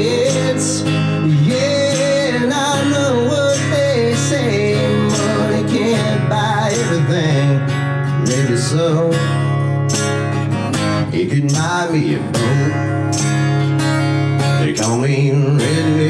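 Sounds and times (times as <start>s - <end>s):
man singing: 0.0s - 9.7s, 11.0s - 13.4s, 14.4s - 16.0s
strummed acoustic guitar: 0.0s - 16.0s.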